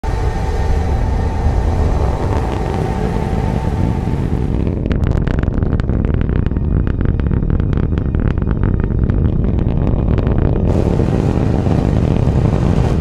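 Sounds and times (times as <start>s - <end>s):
rocket engine crackle: 0.0s - 13.0s
rocket engines rumbling: 0.0s - 13.0s.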